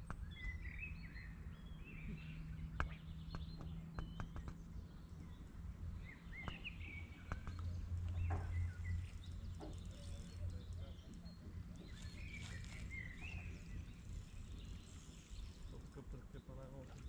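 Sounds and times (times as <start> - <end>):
birds chirping: 0.1 - 17.0.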